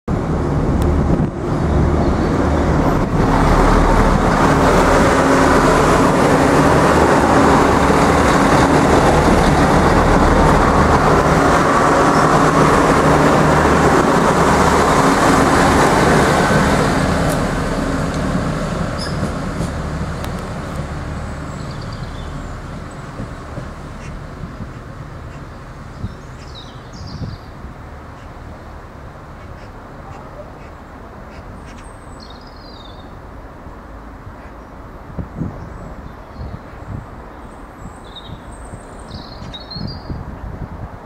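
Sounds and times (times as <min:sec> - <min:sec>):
diesel engines humming: 0:00.1 - 0:35.1
wheels rushing on rails: 0:00.1 - 0:41.0.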